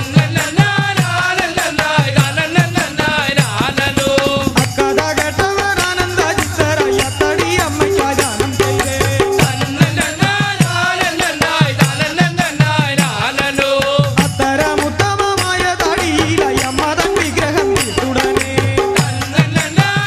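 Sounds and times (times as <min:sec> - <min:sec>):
fast rattling percussion: 0:00.0 - 0:20.0.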